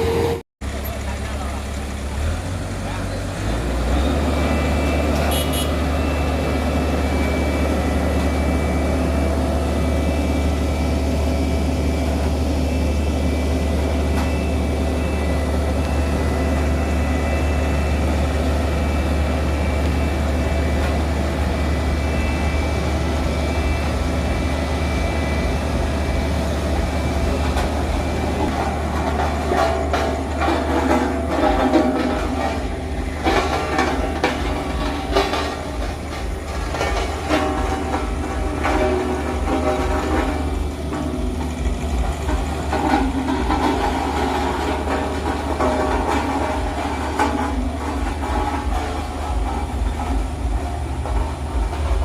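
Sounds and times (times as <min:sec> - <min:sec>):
diesel truck engine droning: 0:00.0 - 0:52.0.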